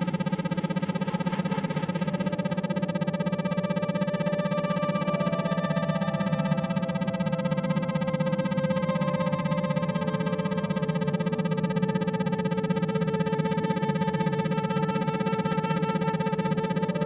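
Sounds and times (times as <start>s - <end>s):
pulsing synthesized meditation tones: 0.0s - 17.0s.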